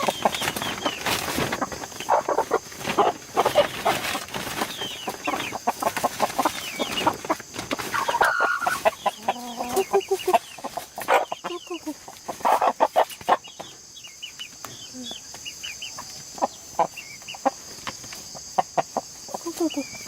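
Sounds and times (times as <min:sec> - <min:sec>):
chicken pitched calls: 0:00.0 - 0:14.4, 0:15.1 - 0:17.7
chickens clucking: 0:00.0 - 0:20.0.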